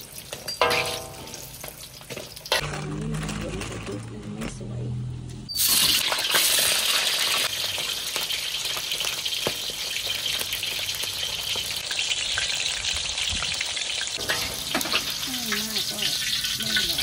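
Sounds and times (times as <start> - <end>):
fish deep-frying in oil: 0.0 - 2.7, 5.5 - 17.0.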